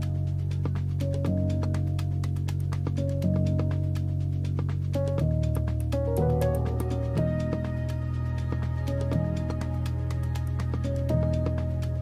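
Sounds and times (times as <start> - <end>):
soft new age music: 0.0 - 12.0.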